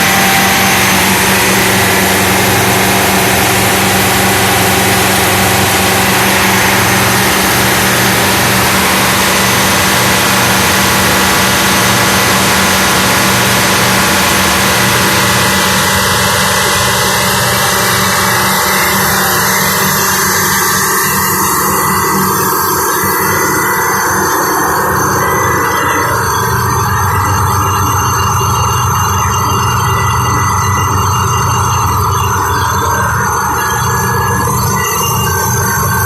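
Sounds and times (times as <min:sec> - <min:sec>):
two-stroke diesel engine running: 0:00.0 - 0:36.0.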